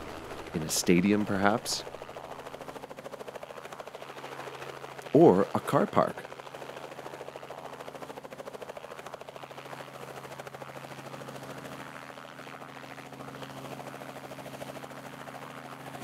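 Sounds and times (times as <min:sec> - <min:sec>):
helicopter engine hum: 0:00.0 - 0:16.0
helicopter rotor beating: 0:00.0 - 0:16.0.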